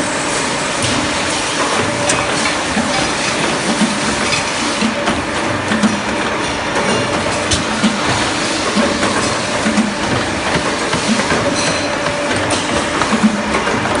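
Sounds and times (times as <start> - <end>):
pipe bending machine running: 0.0 - 14.0
machine clacking: 1.6 - 14.0.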